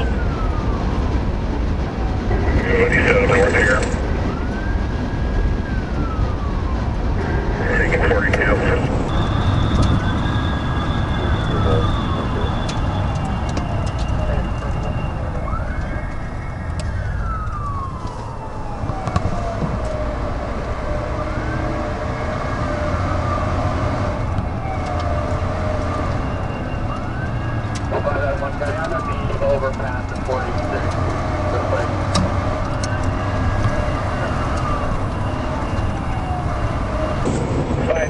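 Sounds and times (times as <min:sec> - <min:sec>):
engine and road noise: 0:00.0 - 0:38.0
police siren wailing: 0:00.0 - 0:38.0.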